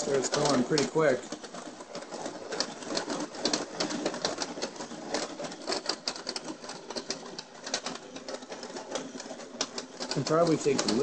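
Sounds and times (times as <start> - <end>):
chocolate chunks rattling in jug: 0.0 - 11.0
hot chocolate maker running: 0.0 - 11.0.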